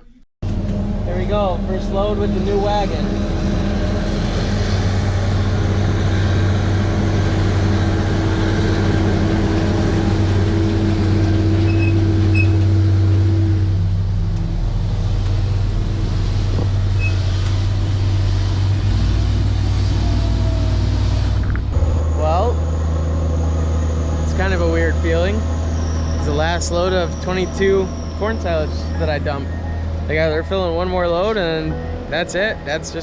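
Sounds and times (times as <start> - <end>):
diesel machinery droning: 0.4 - 33.0.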